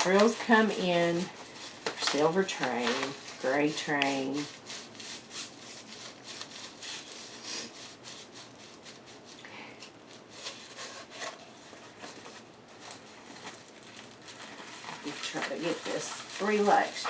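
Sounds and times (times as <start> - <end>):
packaging rustling and scraping: 0.0 - 9.4, 10.0 - 17.0.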